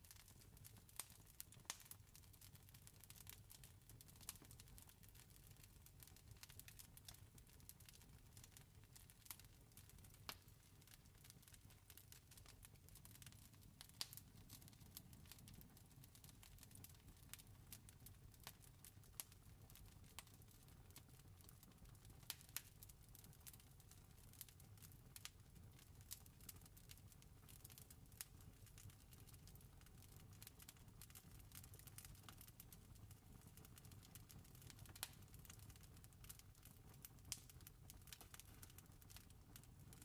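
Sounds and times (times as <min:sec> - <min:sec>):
campfire crackling and popping: 0:00.1 - 0:02.5, 0:03.3 - 0:05.0, 0:06.1 - 0:23.6, 0:24.4 - 0:27.1, 0:27.7 - 0:40.0.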